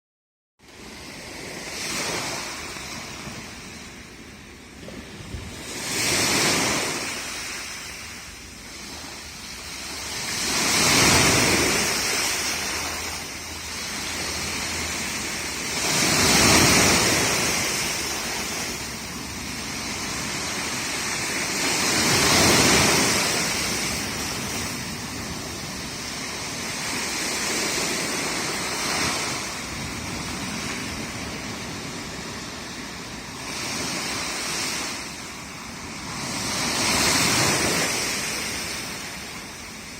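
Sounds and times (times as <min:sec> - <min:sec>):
waves breaking on shore: 0:00.6 - 0:39.9.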